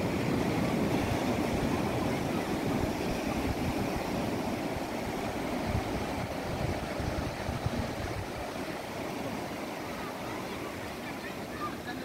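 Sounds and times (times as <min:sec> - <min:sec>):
wind buffeting microphone: 0:00.0 - 0:10.0
distant surf: 0:00.0 - 0:12.0.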